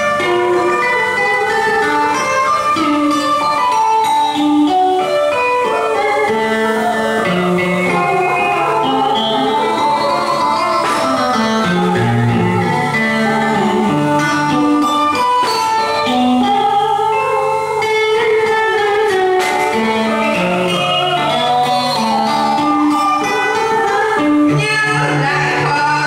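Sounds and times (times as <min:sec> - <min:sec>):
instrumental music: 0:00.0 - 0:26.0.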